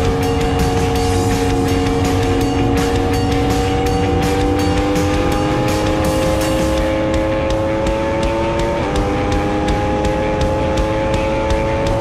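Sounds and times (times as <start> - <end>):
motorcycle engine at full throttle: 0.0 - 12.0.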